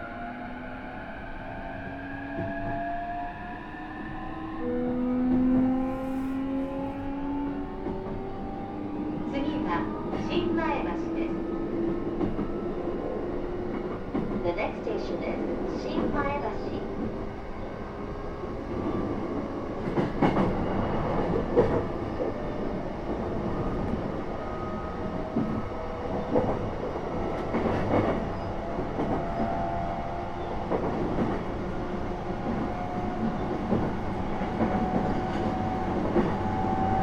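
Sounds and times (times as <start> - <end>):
train wheels rumbling on rail: 1.2 - 37.0.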